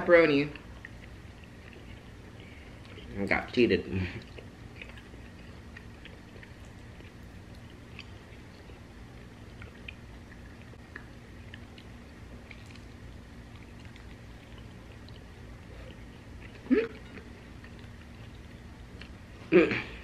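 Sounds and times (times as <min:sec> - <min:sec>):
faint chewing and crunching: 0:00.0 - 0:20.0
low background hum: 0:00.0 - 0:20.0.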